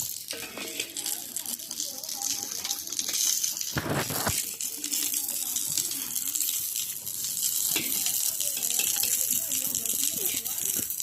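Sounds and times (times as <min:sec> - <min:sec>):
water pouring and splashing: 0:00.0 - 0:11.0.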